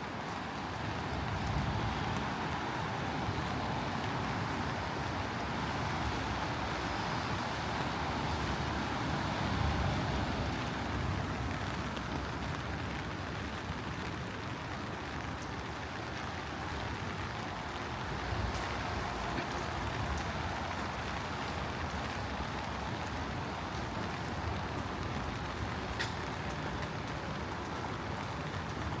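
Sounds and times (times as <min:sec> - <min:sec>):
steady rain: 0:00.0 - 0:29.0
street traffic hum: 0:00.0 - 0:29.0.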